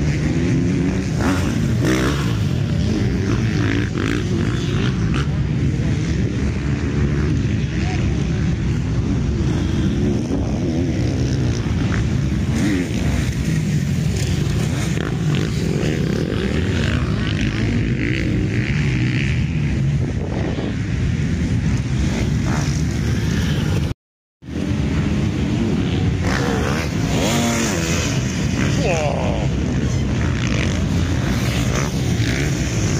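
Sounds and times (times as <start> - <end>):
motocross bikes revving: 0.0 - 32.9.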